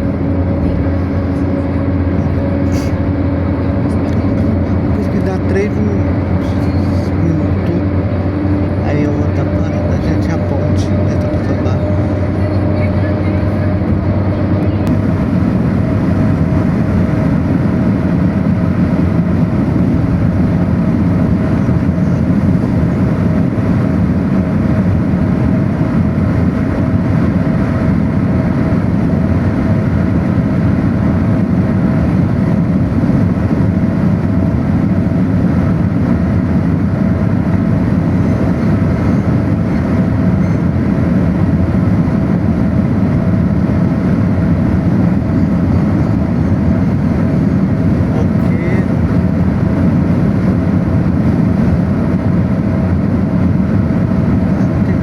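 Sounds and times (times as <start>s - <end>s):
faint steady whine: 0.0s - 55.0s
vehicle engine and road rumble: 0.0s - 55.0s.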